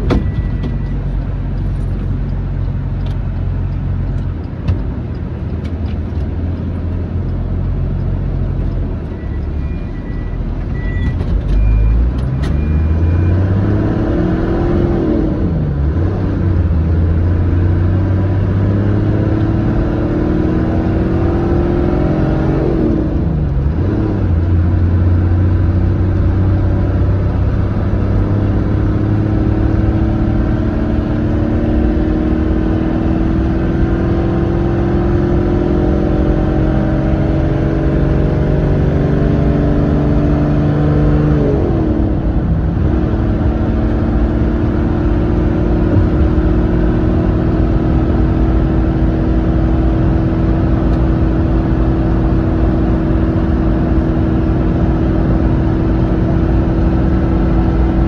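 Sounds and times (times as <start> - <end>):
low road rumble: 0.0 - 58.0
vehicle engine accelerating: 0.0 - 58.0.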